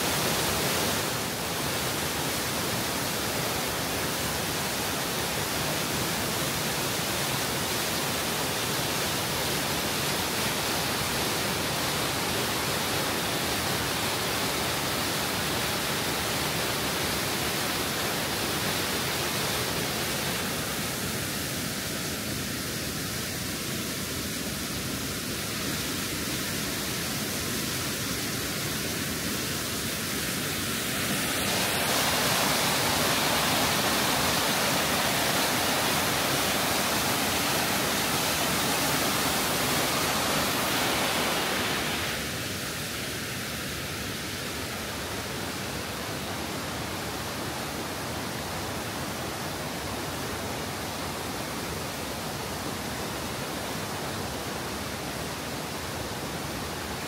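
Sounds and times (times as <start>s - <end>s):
waterfall rushing into pool: 0.0s - 57.0s.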